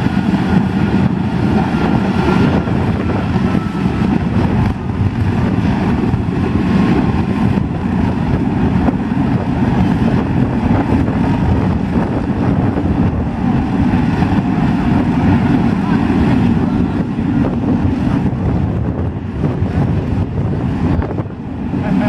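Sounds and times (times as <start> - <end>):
jet engine roaring: 0.0 - 22.0.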